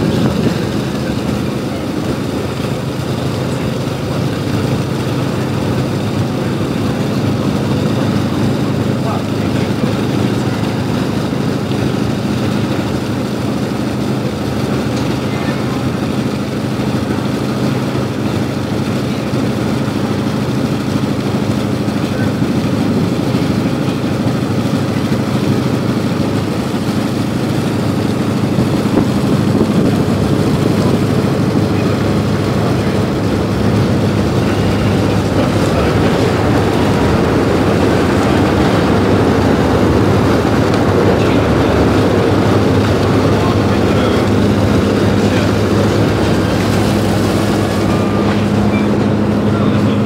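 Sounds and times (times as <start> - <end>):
diesel engine humming: 0.0 - 50.0.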